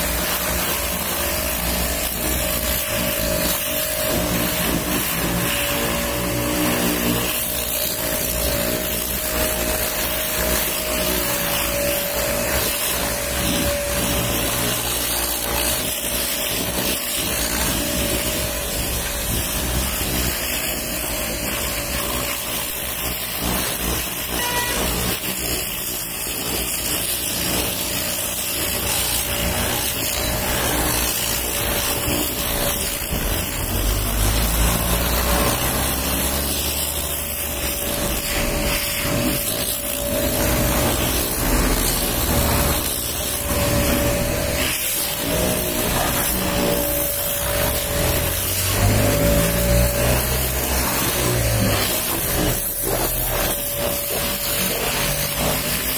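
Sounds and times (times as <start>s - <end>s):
pressure washer spraying water: 0.0s - 55.9s.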